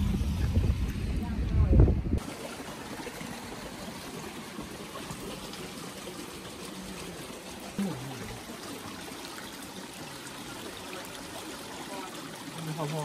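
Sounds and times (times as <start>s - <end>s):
water trickling: 0.4s - 13.0s.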